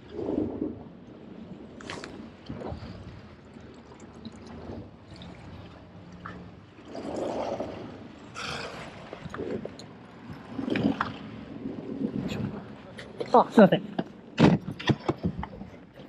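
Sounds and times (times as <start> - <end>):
sea water sloshing: 0.0 - 16.0.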